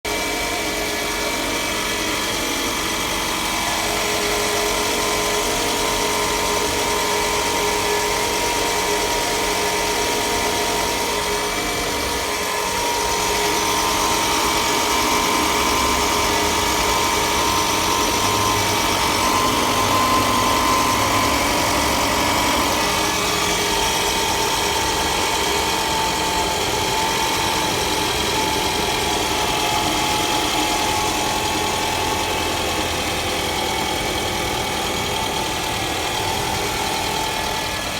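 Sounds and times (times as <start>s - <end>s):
car engine running: 0.0s - 37.9s
engine timing chain noise: 0.1s - 37.9s.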